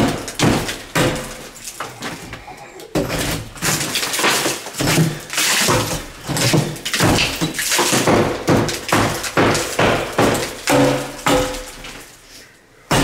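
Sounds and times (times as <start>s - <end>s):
hammer striking plaster wall: 0.0s - 1.6s, 3.0s - 12.0s.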